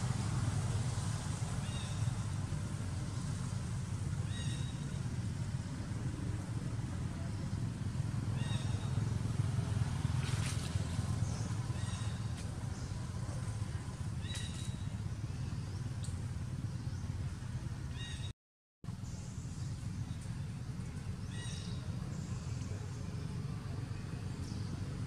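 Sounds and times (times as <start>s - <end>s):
low outdoor rumble: 0.0s - 18.3s, 18.9s - 25.0s.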